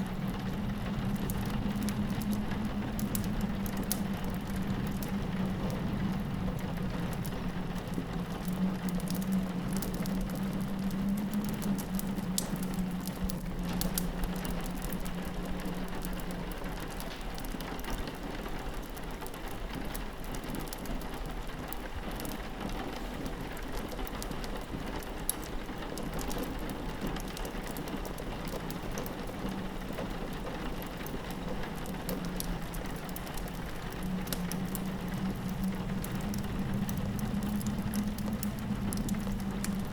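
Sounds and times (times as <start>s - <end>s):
howling wind: 0.0s - 39.9s
rain pattering on a window: 0.0s - 39.9s
wood fire crackling: 0.0s - 39.9s.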